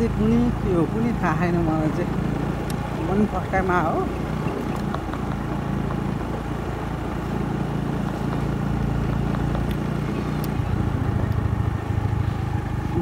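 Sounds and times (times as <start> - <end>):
road and wind hiss: 0.0 - 13.0
small motorbike engine running: 0.0 - 13.0.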